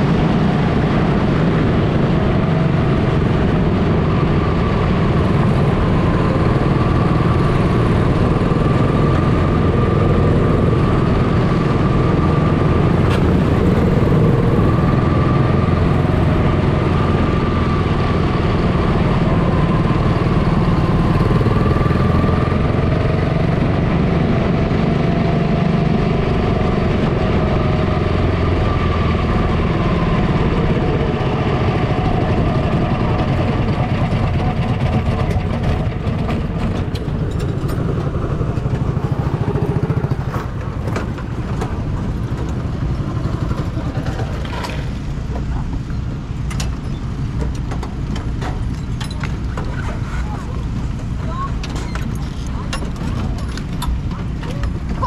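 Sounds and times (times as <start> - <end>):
race car engines running: 0.0 - 55.0.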